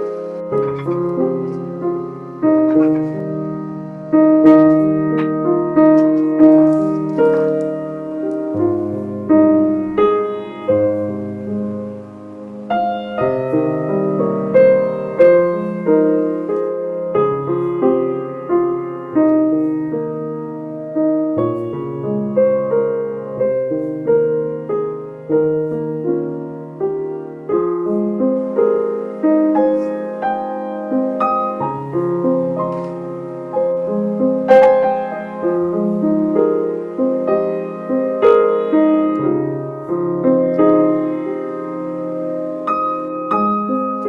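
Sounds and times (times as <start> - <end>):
gentle piano music: 0.0 - 44.0.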